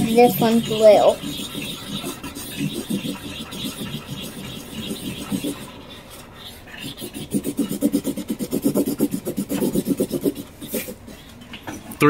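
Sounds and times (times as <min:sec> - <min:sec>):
marker scribbling on paper: 0:00.0 - 0:11.0.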